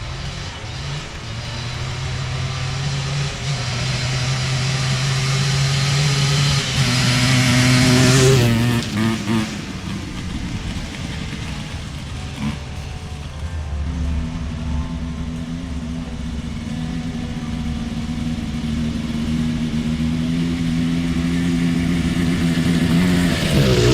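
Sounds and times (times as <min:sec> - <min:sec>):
atv engine passing by: 0:00.0 - 0:23.9.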